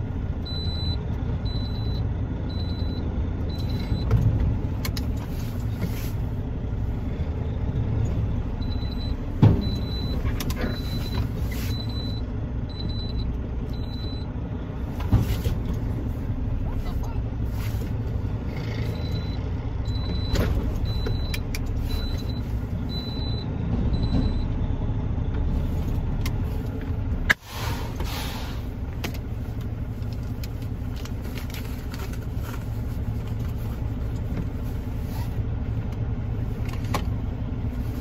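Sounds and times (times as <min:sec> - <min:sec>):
truck engine low rumble: 0:00.0 - 0:38.0.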